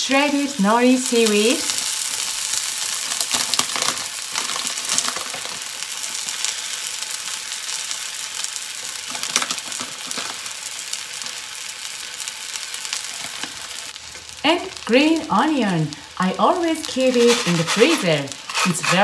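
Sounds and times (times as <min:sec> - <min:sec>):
noodles sizzling on a griddle: 0:00.0 - 0:19.0.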